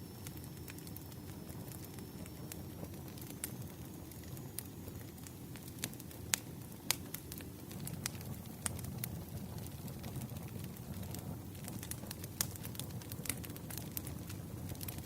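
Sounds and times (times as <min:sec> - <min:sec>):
bonfire crackling: 0:00.0 - 0:15.0
burning wood popping: 0:00.2 - 0:15.0.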